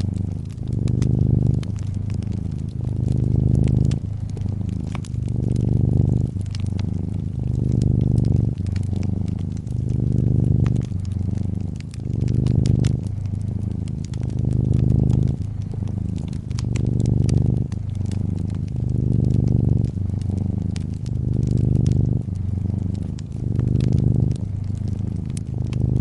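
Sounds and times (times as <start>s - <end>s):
cat purring: 0.0s - 26.0s
fireplace fire crackling: 0.0s - 26.0s.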